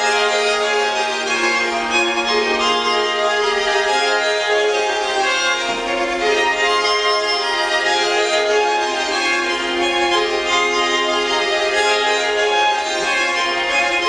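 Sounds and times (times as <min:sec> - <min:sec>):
string quartet playing chords: 0:00.0 - 0:14.0.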